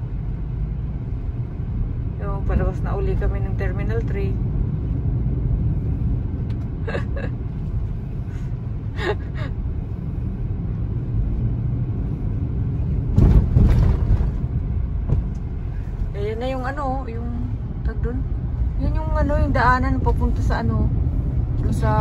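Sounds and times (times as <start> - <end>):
car cabin road rumble: 0.0 - 22.0.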